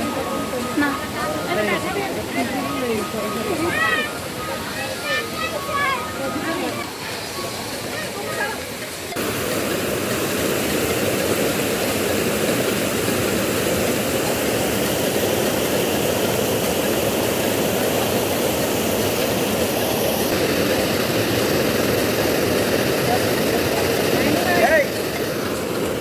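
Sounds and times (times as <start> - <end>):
waterfall crashing: 0.0 - 26.0.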